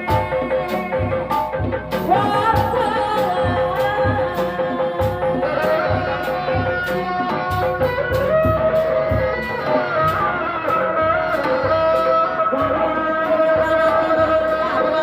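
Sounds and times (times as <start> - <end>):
bending melody line: 0.0 - 15.0
drum strokes: 0.0 - 15.0.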